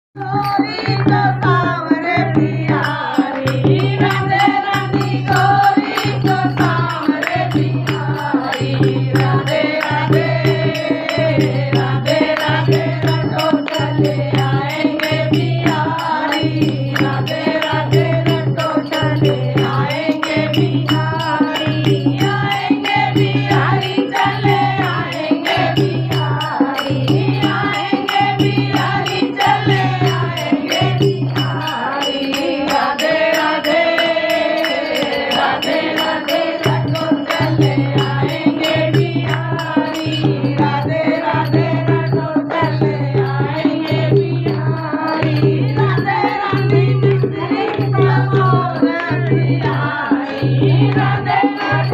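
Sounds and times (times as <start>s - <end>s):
barrel drum beat: 0.2s - 51.9s
small hand cymbals: 0.2s - 51.9s
women singing together: 0.2s - 51.9s.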